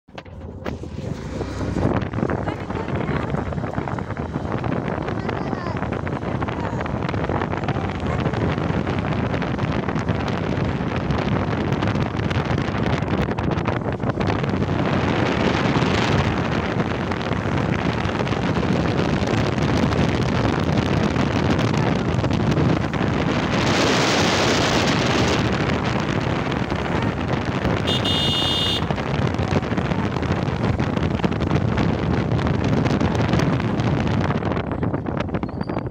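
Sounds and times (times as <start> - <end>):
motorbike rumble: 0.1 - 35.9
wind buffeting microphone: 0.1 - 35.9.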